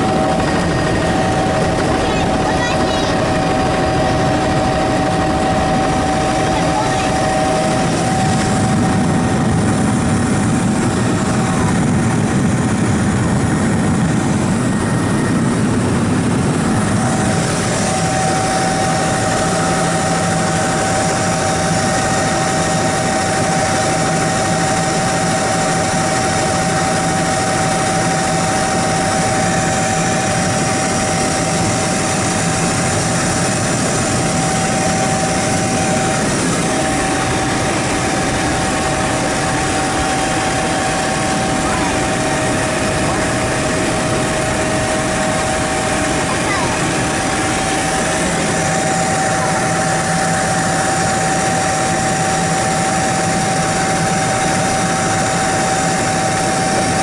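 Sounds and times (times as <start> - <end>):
helicopter engine and rotor drone: 0.0 - 57.0
high whine: 0.0 - 57.0.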